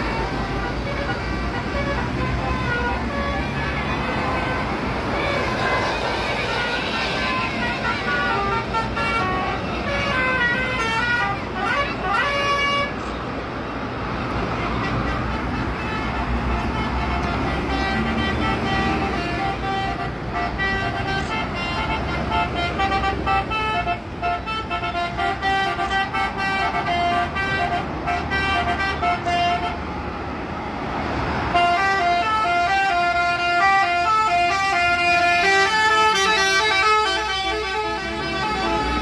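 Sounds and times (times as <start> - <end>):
multi-tone musical bus horn: 0.0 - 30.2, 31.2 - 39.0.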